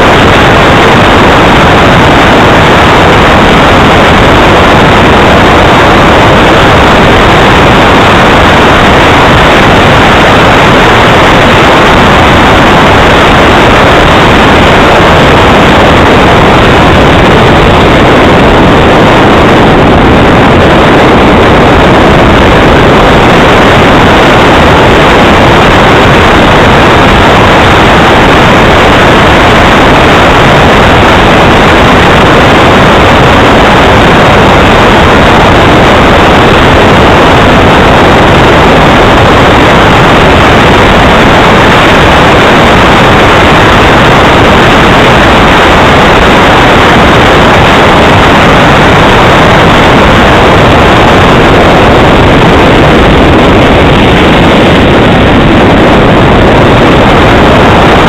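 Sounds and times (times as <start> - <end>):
model jet engine rushing: 0.0 - 58.0.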